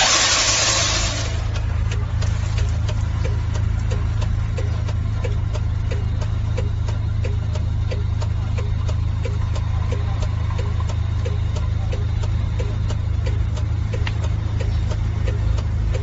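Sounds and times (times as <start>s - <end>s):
regular ticking: 0.0s - 16.0s
truck engine idling: 0.0s - 16.0s.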